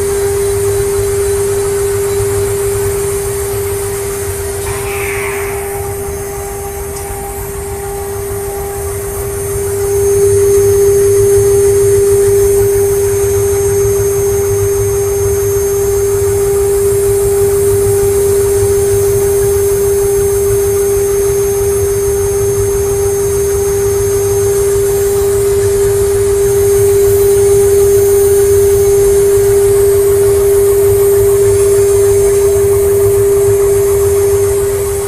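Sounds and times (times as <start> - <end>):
router spindle whine: 0.0 - 35.0.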